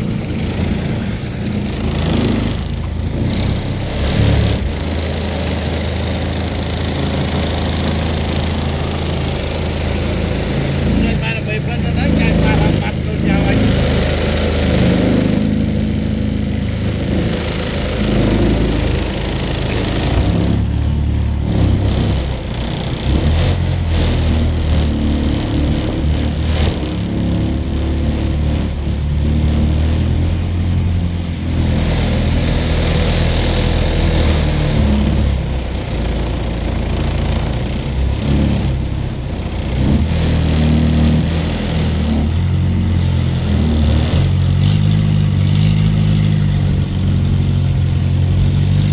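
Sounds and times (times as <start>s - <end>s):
small boat engine running: 0.0s - 48.9s.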